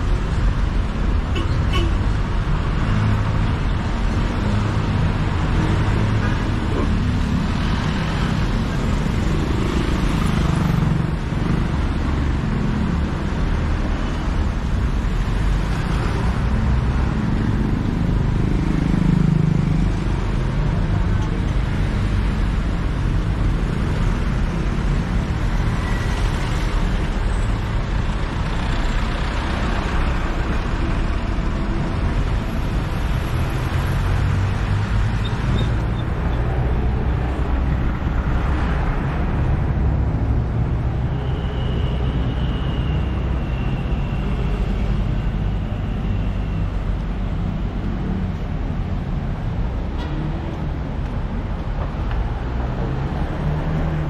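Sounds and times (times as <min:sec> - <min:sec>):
traffic rumble of passing cars: 0:00.0 - 0:54.0.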